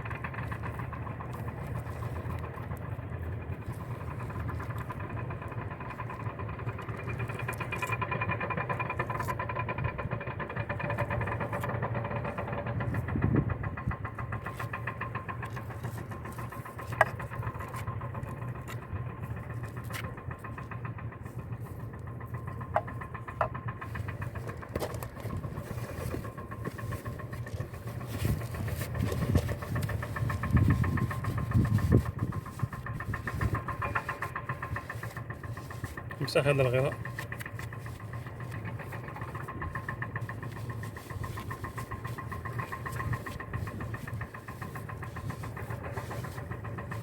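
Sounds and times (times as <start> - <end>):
motor humming steadily: 0.0 - 47.0.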